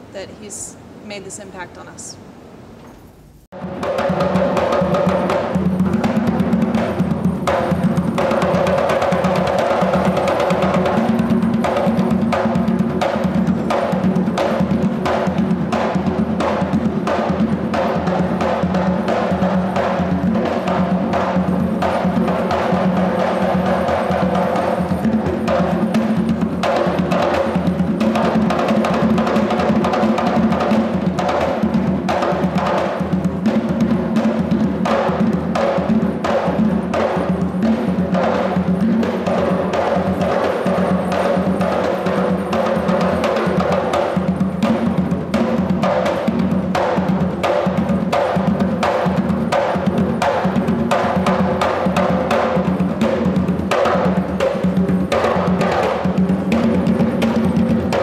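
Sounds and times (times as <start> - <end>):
fast dense drumming: 3.6 - 58.0.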